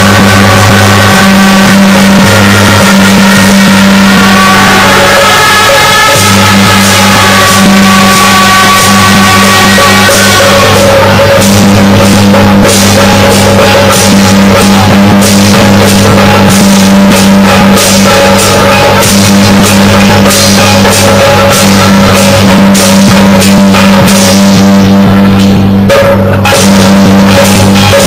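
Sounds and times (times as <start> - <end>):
loud music with drums: 0.0 - 28.0.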